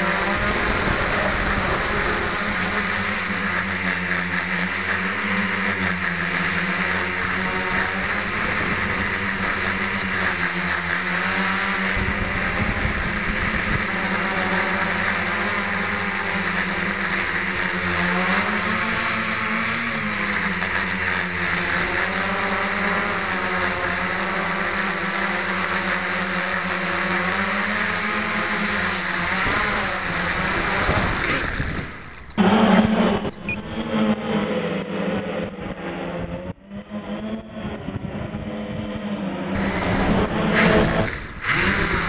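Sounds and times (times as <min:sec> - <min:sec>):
drone propellers buzzing: 0:00.0 - 0:42.0.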